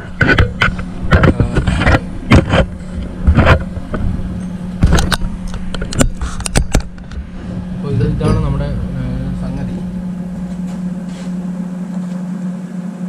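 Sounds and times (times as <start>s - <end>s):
welder humming: 0.0s - 13.0s.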